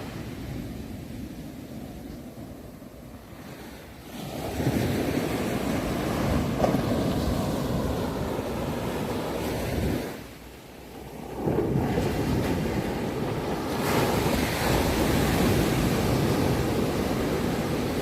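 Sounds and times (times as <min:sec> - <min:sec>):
ocean waves on a shore: 0:00.0 - 0:18.0.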